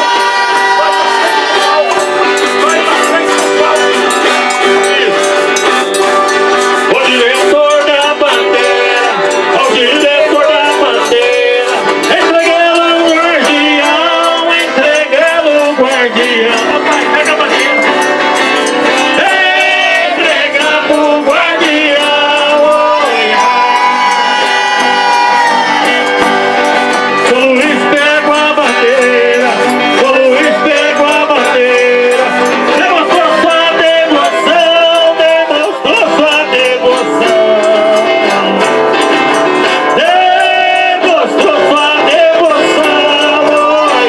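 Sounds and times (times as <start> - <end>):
tambourine: 0.0 - 44.0
voices singing: 0.0 - 44.0.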